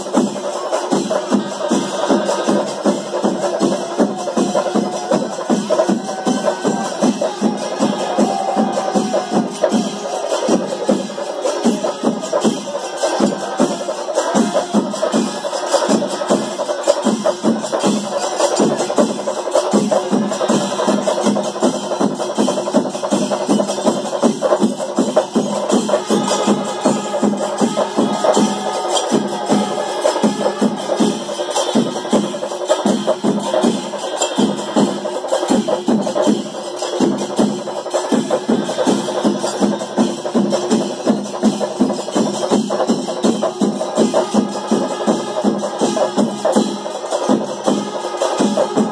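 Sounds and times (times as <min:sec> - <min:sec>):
chenda drums beating fast: 0:00.0 - 0:48.9.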